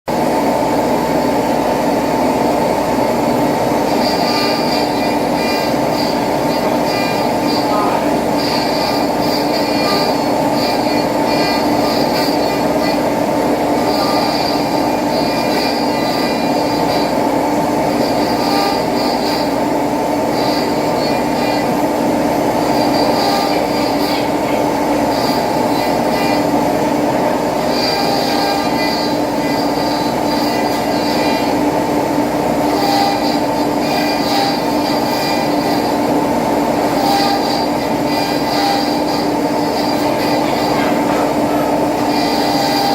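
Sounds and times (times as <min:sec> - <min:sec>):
high-pitched machine whine: 0:00.1 - 0:42.9
machine motor humming: 0:00.1 - 0:42.9.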